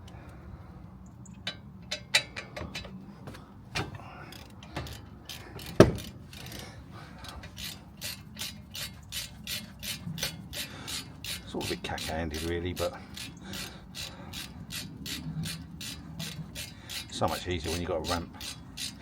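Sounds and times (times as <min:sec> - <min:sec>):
ratchet clicking: 0:01.8 - 0:19.0.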